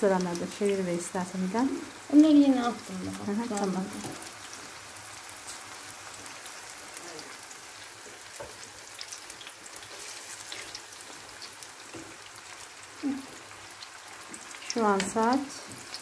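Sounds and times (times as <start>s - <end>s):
eggplant sizzling in hot oil: 0.0s - 16.0s.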